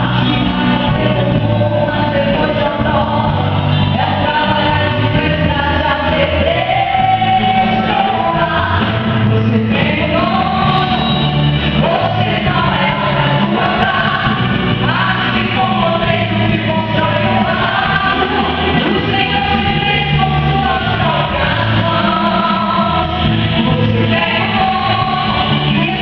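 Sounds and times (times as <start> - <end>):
worship song sung live: 0.0 - 26.0.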